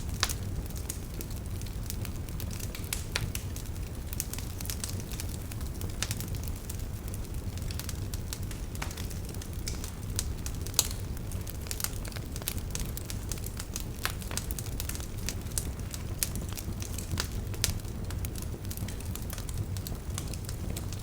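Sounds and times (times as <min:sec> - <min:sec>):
fire crackling and popping: 0:00.0 - 0:21.0
low fire rumble: 0:00.0 - 0:21.0.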